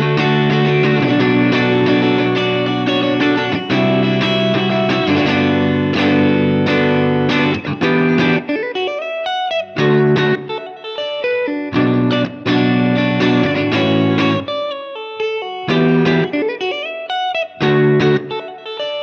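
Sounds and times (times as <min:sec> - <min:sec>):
electric guitar strumming and picking: 0:00.0 - 0:19.0.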